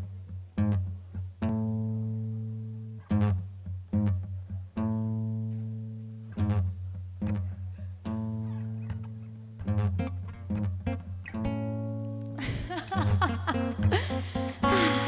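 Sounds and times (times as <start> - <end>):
acoustic guitar chords: 0.6 - 15.0.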